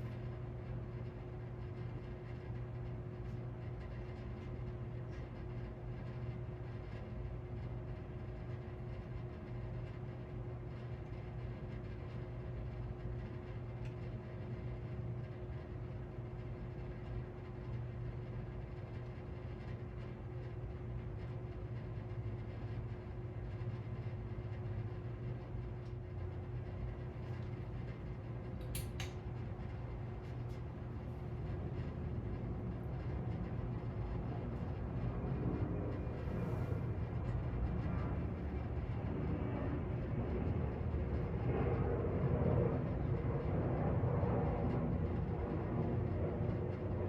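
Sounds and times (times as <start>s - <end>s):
ceiling fan humming: 0.0s - 47.0s.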